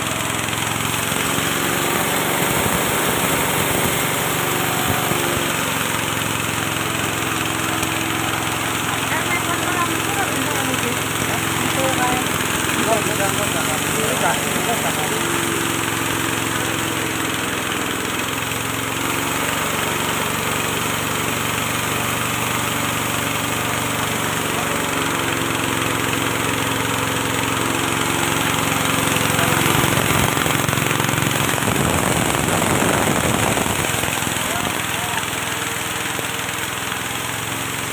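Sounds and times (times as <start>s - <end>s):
engine-driven mill running: 0.0s - 37.9s.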